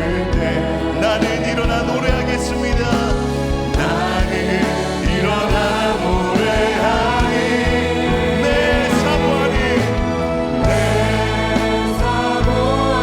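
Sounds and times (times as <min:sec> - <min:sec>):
praise band and singers: 0:00.0 - 0:13.0
steady drum beat: 0:00.0 - 0:13.0.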